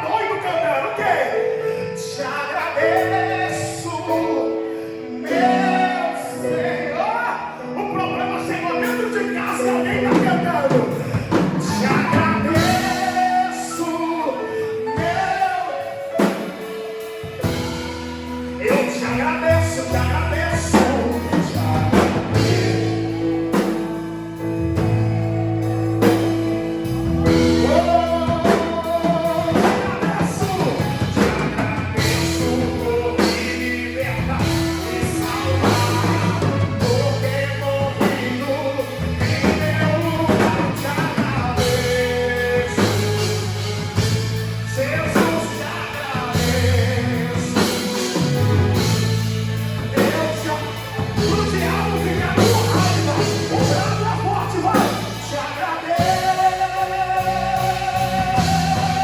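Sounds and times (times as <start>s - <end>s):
gospel band playing: 0.0s - 59.0s
person singing: 0.0s - 59.0s.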